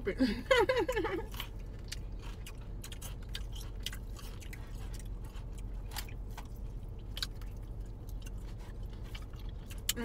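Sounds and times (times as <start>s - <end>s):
crunching of fried chicken: 1.2s - 10.0s.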